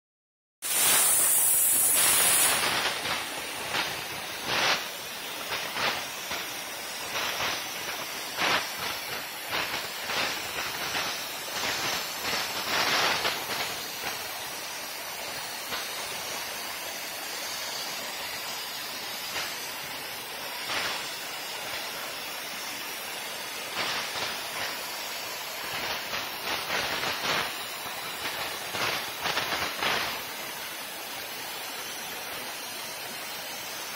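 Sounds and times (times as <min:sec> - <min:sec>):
plasma torch hissing and crackling: 0:00.6 - 0:33.9.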